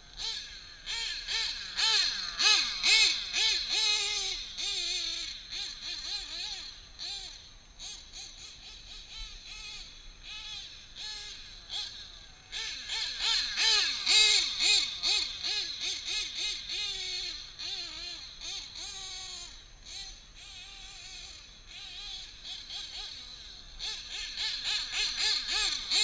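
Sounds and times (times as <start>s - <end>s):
model engine revving buzzy whine: 0.0s - 7.4s, 8.4s - 26.0s.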